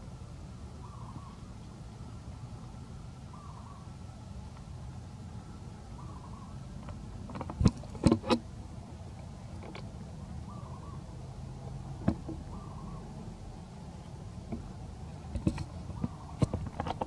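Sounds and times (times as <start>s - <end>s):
steady low rumble: 0.0s - 16.8s.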